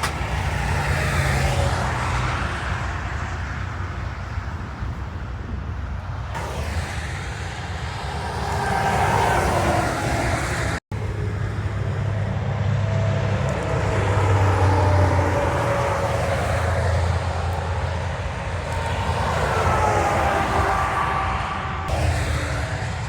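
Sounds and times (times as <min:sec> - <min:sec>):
trucks passing on highway: 0:00.0 - 0:23.0.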